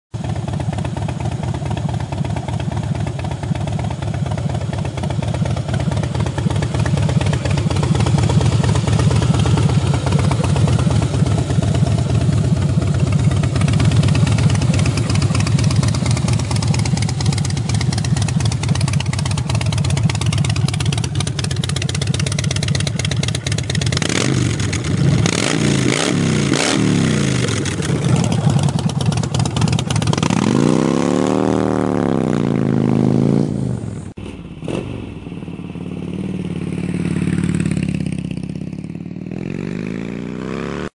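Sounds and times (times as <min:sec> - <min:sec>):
motorcycle engine idling and revving: 0:00.1 - 0:40.9.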